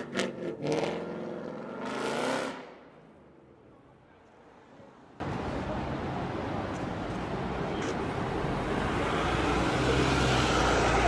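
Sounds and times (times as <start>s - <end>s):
street noise: 0.0s - 11.0s
wind: 0.0s - 11.0s.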